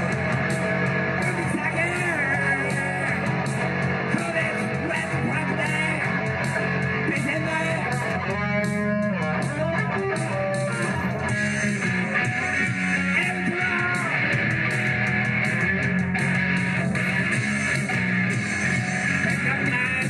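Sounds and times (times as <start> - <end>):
electric guitar sliding notes: 0.0 - 20.0
live rock music: 0.0 - 20.0.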